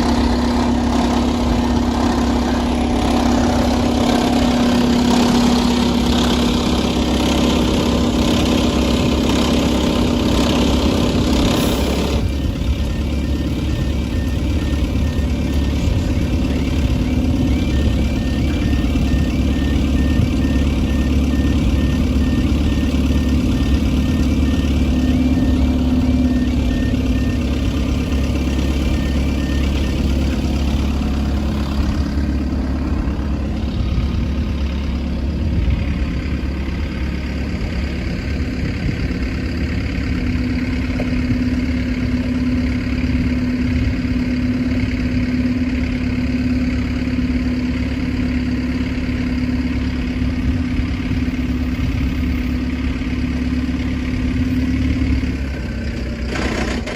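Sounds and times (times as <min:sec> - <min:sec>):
level crossing warning tone: 0:00.0 - 0:56.6
engines rumbling: 0:00.0 - 0:56.9.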